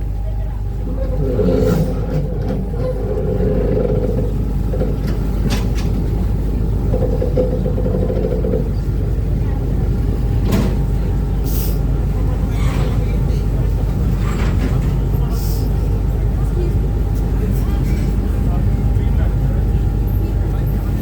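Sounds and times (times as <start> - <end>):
boat engine drone: 0.0 - 21.0
wind: 0.0 - 21.0.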